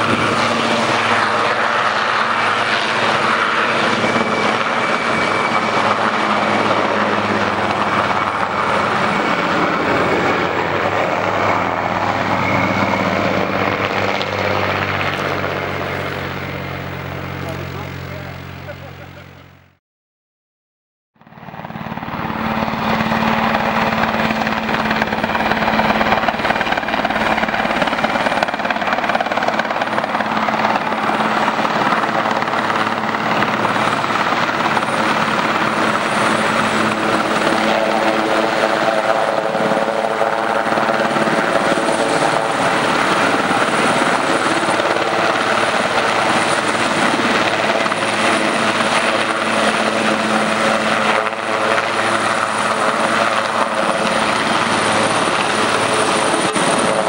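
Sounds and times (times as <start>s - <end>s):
high turbine whine: 0.0s - 19.7s, 21.2s - 57.0s
helicopter rotor and turbine noise: 0.0s - 19.8s, 21.2s - 57.0s.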